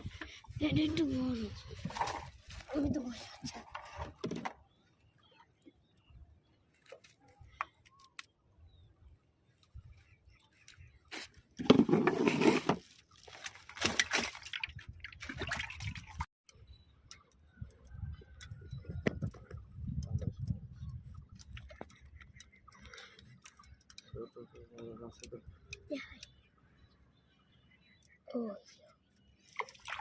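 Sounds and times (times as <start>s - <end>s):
water splashing and sloshing: 0.0s - 8.5s, 9.4s - 26.2s, 28.6s - 30.0s.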